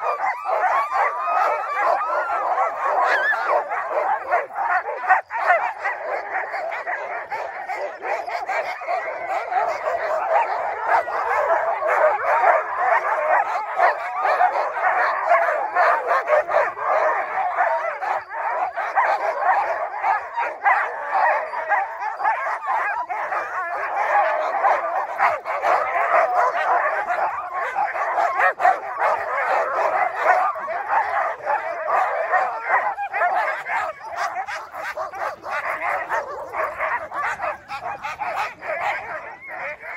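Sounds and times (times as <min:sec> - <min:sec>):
sled dogs barking and howling: 0:00.0 - 0:39.9.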